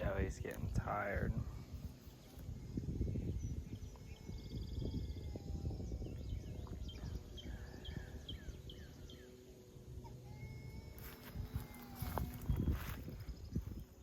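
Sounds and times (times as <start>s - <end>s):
songbirds trilling and chirping: 0.0s - 14.0s
steady low rumble: 0.0s - 14.0s.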